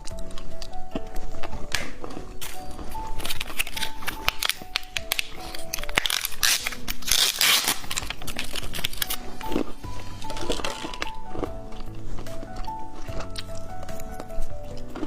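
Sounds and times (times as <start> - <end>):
background music: 0.0 - 15.0
candy wrapper crackling: 0.0 - 15.0.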